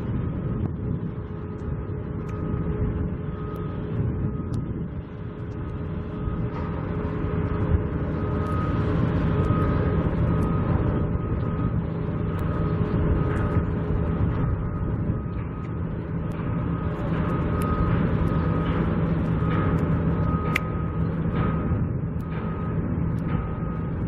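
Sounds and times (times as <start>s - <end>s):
machinery rumble: 0.0s - 24.0s
reversing alarm beeping: 0.0s - 24.0s
wind buffeting microphone: 0.0s - 24.0s.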